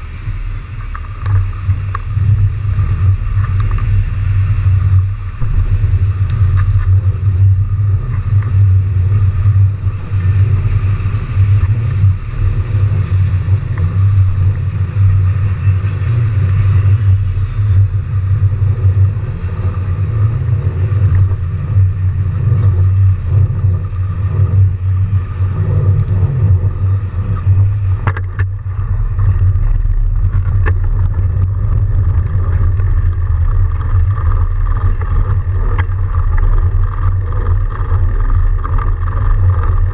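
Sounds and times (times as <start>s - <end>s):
bike tyres in snow: 0.0s - 39.9s
wind buffeting microphone: 0.0s - 39.9s.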